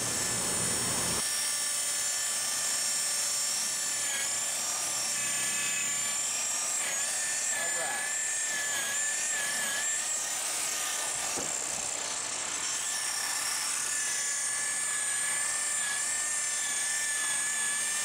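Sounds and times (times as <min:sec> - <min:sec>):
small motor whining: 0:00.0 - 0:18.0.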